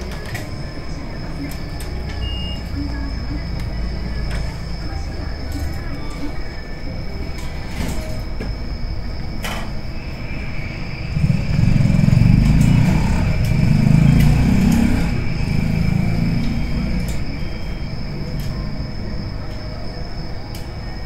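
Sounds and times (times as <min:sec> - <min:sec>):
faint high whine: 0:00.0 - 0:21.0
low vehicle rumble: 0:00.0 - 0:21.0.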